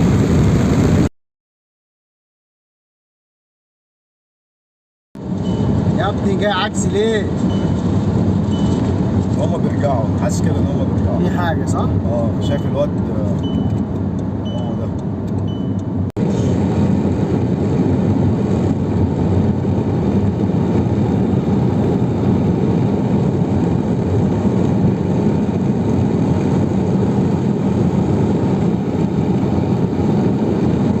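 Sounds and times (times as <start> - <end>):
vehicle rumble while driving: 0.0 - 1.1, 5.2 - 31.0.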